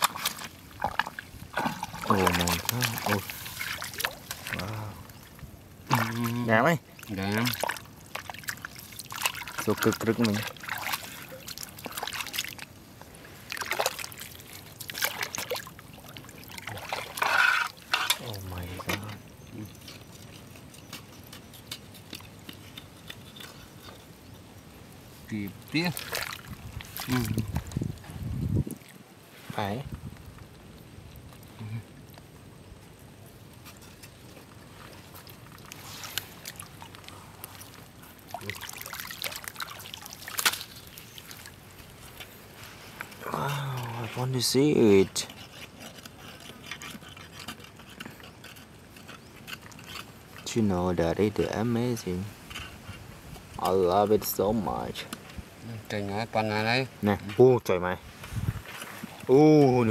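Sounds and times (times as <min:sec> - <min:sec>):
mud and water splashing: 0:00.0 - 0:59.9.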